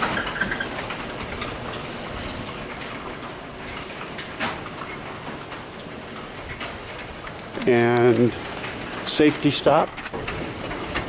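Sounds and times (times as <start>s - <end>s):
garage door rattling down: 0.0s - 11.0s.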